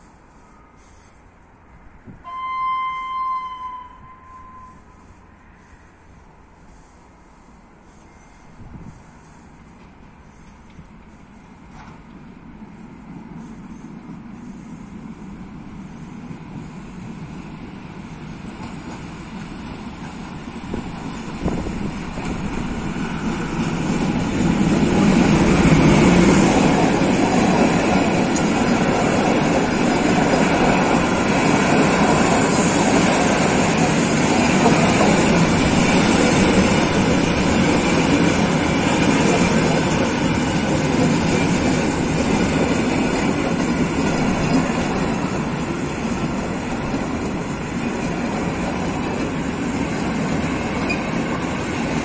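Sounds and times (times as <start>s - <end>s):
diesel locomotive passing: 0.0s - 52.0s
train wheels on rails: 0.0s - 52.0s.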